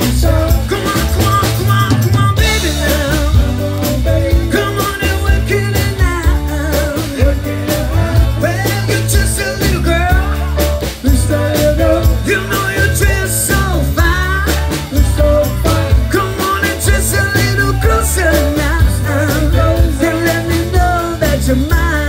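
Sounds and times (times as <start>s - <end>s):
bass line: 0.0s - 22.0s
drums beating: 0.0s - 22.0s
electric guitar: 0.0s - 22.0s
man singing: 0.0s - 22.0s.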